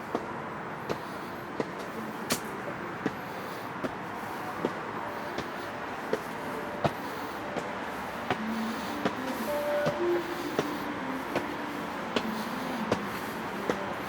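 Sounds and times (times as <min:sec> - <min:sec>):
distant city traffic hum: 0:00.0 - 0:14.0
footsteps walking: 0:00.0 - 0:14.0.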